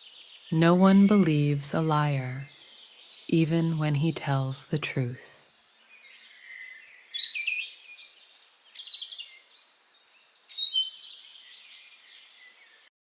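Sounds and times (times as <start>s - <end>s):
songbirds chirping and singing: 0.0s - 12.9s.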